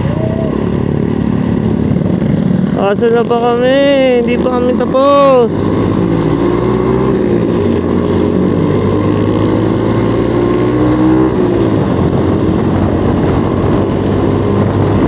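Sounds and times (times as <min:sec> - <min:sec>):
motorcycle engine cruising: 0:00.0 - 0:15.0
wind and road rush: 0:00.0 - 0:15.0.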